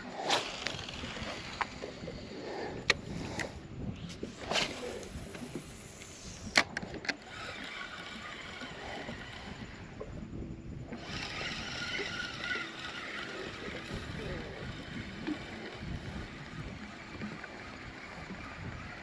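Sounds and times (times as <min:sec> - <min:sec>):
rushing water around boat: 0:00.0 - 0:19.0.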